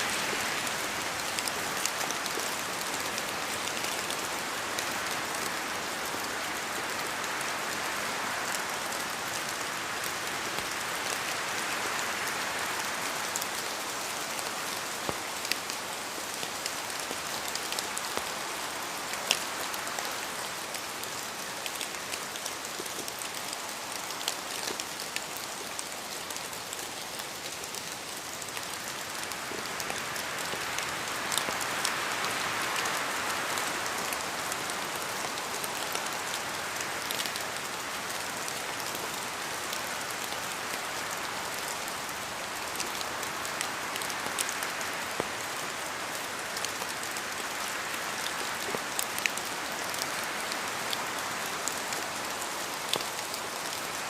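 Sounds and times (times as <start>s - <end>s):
steady rain hiss: 0.0s - 54.0s
wind: 0.0s - 54.0s.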